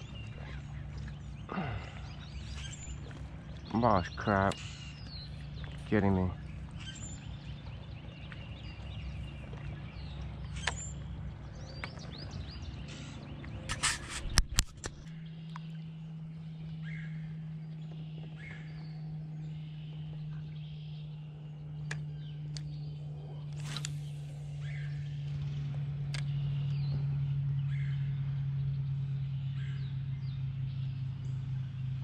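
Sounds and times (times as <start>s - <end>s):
birds chirping and calling: 0.0s - 31.8s
steady low hum: 0.0s - 32.0s.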